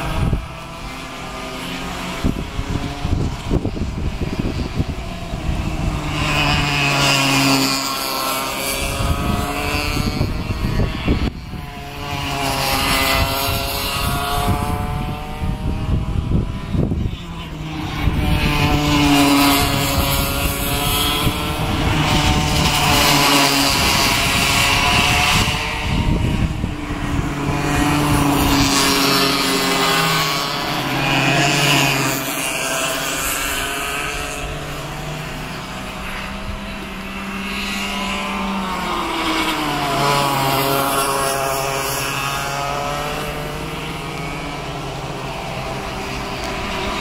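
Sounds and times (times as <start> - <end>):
kart engines buzzing past: 0.0 - 47.0.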